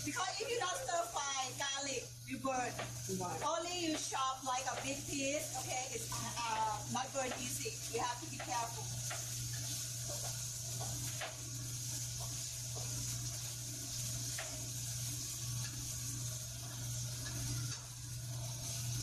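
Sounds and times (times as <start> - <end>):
garlic sizzling in oil: 0.0 - 19.0.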